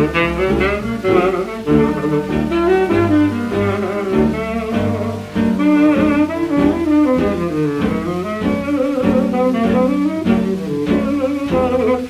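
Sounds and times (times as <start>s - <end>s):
jazz orchestra playing: 0.0s - 12.0s.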